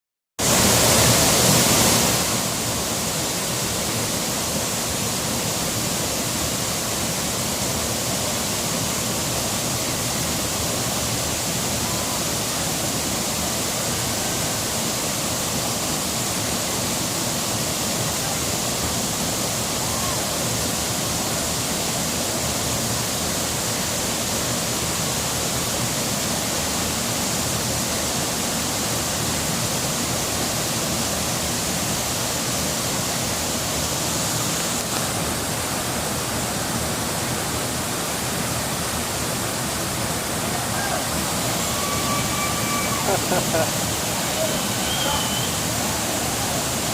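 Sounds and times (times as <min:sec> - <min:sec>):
waterfall rushing: 0:00.4 - 0:46.9.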